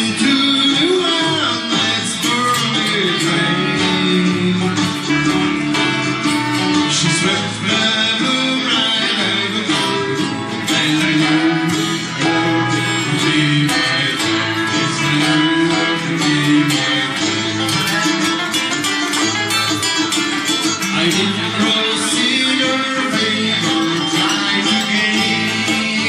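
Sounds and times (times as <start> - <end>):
live band playing: 0.0 - 26.0
strummed acoustic guitar: 0.0 - 26.0
upright bass: 0.0 - 26.0.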